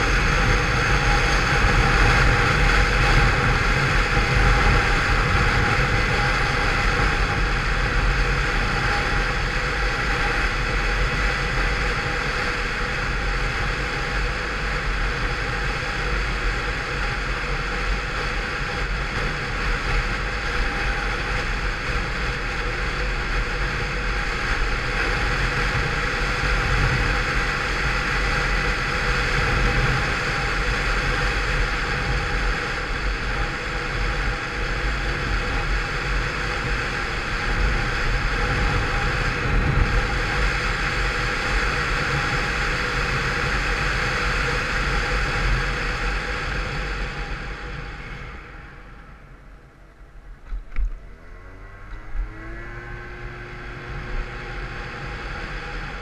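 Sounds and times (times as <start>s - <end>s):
scooter engine cruising: 0.0s - 56.0s.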